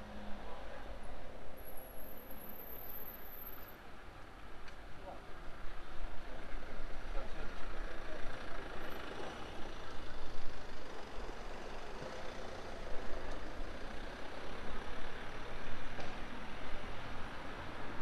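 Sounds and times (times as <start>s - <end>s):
street noise: 0.0s - 18.0s.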